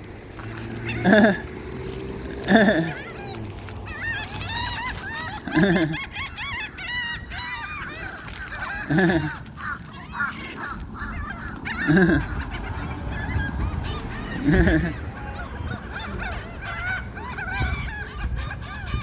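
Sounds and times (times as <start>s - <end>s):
loud low gull call: 0.0s - 19.0s
seagulls squawking: 0.0s - 19.0s.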